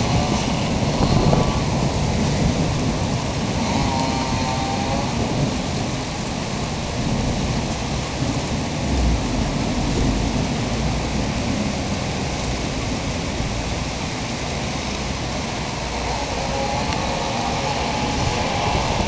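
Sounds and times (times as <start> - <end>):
deep low thunder rumble: 0.0 - 19.0
steady rushing noise: 0.0 - 19.0.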